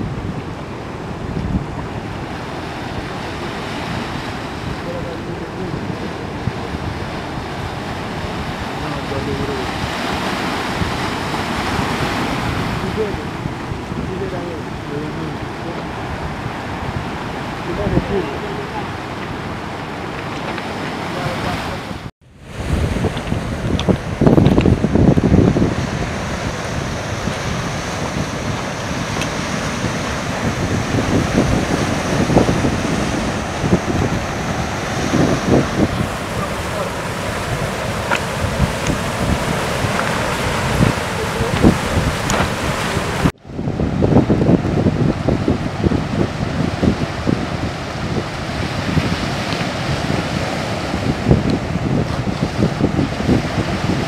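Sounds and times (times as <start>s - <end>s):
sea surf splashing: 0.0s - 54.0s
wind buffeting microphone: 0.0s - 54.0s.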